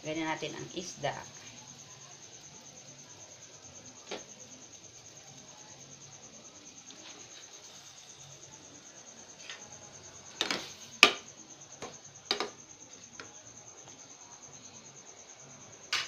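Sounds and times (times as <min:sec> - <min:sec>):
cricket trill: 0:00.0 - 0:16.0.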